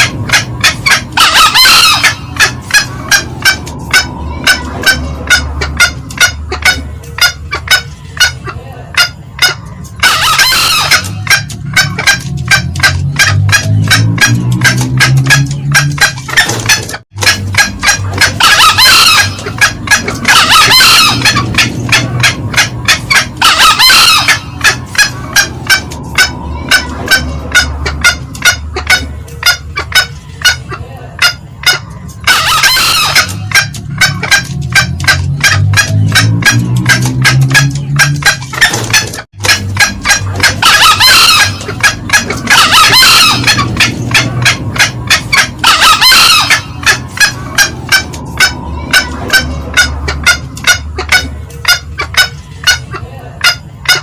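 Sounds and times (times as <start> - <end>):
junglefowl cackling clucks: 0.0 - 54.0
junglefowl high calls: 0.0 - 54.0.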